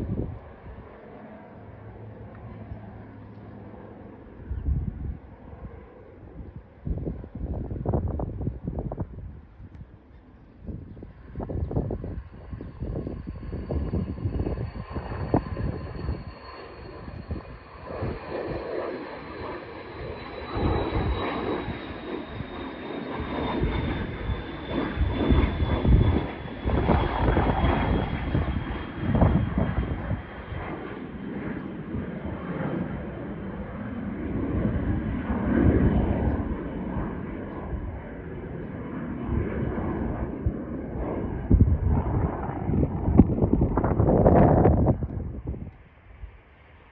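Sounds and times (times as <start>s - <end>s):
airplane engines roaring: 0.0s - 46.9s
high engine whine: 0.0s - 46.9s.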